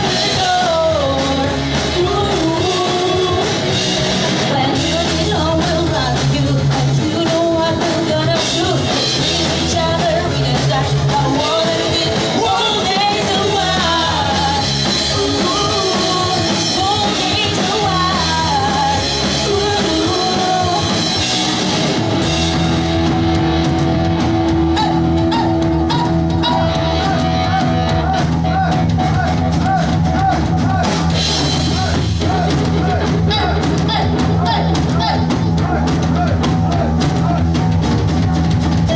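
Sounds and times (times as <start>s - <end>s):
person singing: 0.0s - 21.6s, 24.7s - 37.4s
drum kit: 0.0s - 38.9s
pop-punk band playing: 0.0s - 38.9s.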